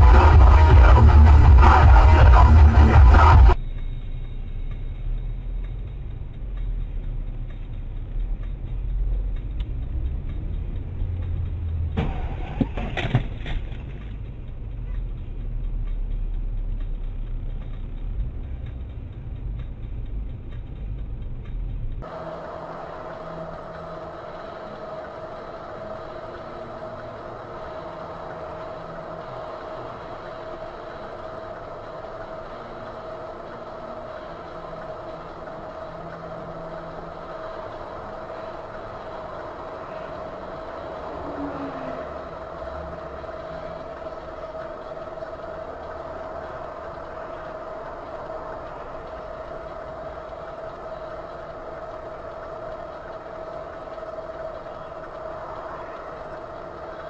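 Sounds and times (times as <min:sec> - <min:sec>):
constant high tone: 0:00.0 - 0:57.0
steady vehicle hum: 0:00.0 - 0:57.0
vehicle low rumble: 0:00.0 - 0:57.0.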